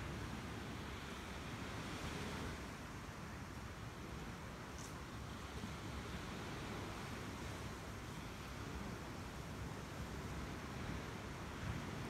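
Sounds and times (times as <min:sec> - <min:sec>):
small waves washing on sand: 0:00.0 - 0:12.0
wind on microphone: 0:00.0 - 0:12.0.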